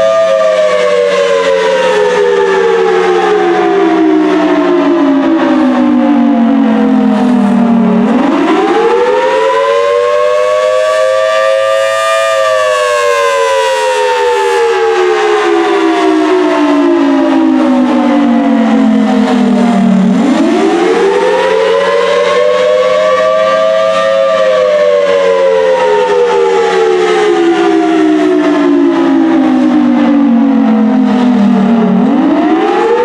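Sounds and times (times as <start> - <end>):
loud wailing warning siren: 0.0 - 33.0.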